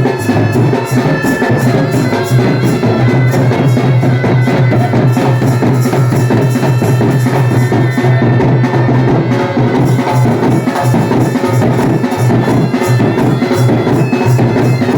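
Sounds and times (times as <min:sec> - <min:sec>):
quick drum beats: 0:00.0 - 0:14.9
reed pipes playing folk tune: 0:00.0 - 0:14.9
steady drone: 0:00.0 - 0:14.9.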